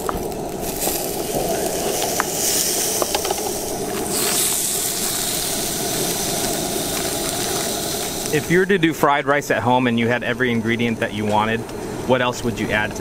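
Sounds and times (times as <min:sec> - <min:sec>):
fish sizzling on a grill: 0:00.0 - 0:11.0.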